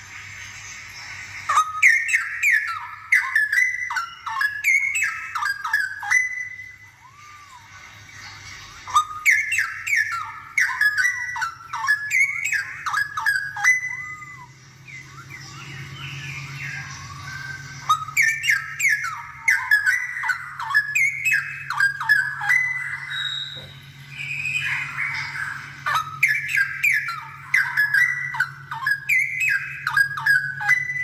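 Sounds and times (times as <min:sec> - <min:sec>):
bird whistled song: 0:00.0 - 0:31.0
soft bird warbling: 0:00.0 - 0:31.0
steady low hum: 0:00.0 - 0:31.0.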